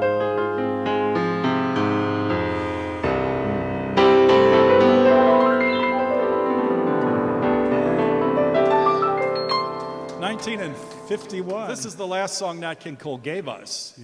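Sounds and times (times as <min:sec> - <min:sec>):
piano playing a ballad: 0:00.0 - 0:12.0.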